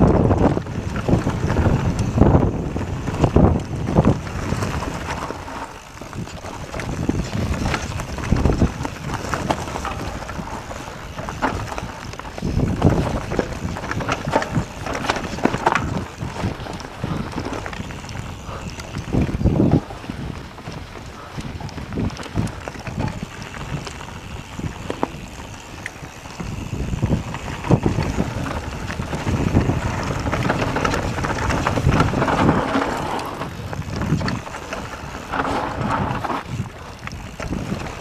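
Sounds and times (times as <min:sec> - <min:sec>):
mountain bike knocks and rattles: 0:00.0 - 0:19.9, 0:21.6 - 0:38.0
tyres rumbling on dirt trail: 0:00.0 - 0:38.0
wind buffeting microphone: 0:00.0 - 0:38.0.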